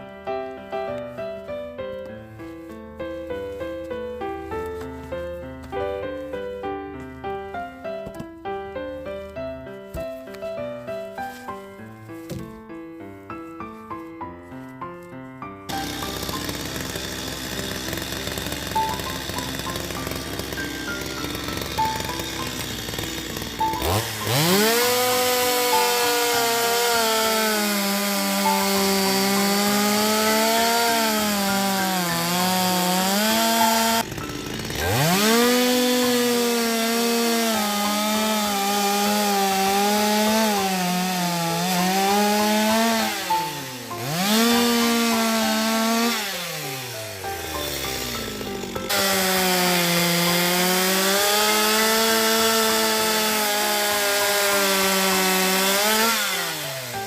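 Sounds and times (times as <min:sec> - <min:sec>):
chainsaw cutting log: 0:02.3 - 0:12.7, 0:15.7 - 0:57.0.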